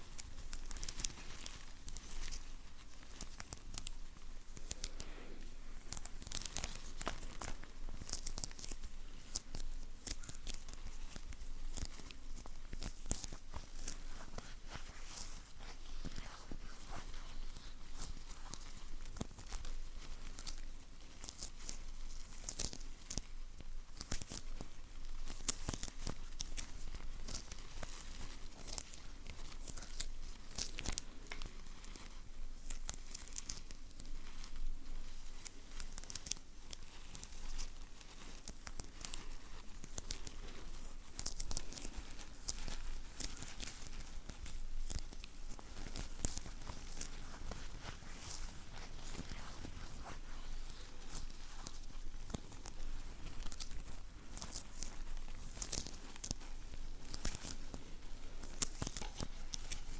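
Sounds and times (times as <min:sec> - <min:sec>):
sticky material peeling crackles: 0:00.0 - 0:59.9.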